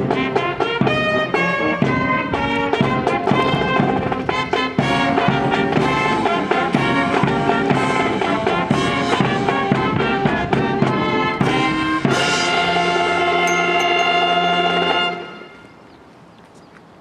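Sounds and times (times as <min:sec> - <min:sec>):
brass band playing chords: 0:00.0 - 0:15.8.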